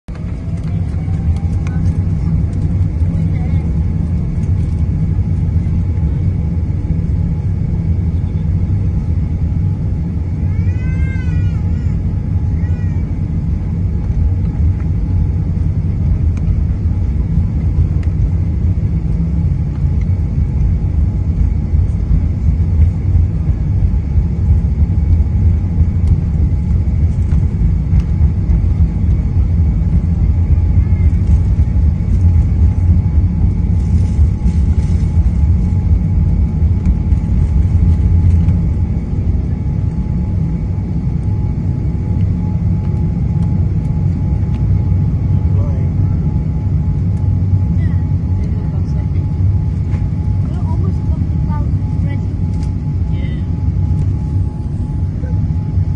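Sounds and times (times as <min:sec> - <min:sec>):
jet engines rumbling: 0:00.1 - 0:55.9.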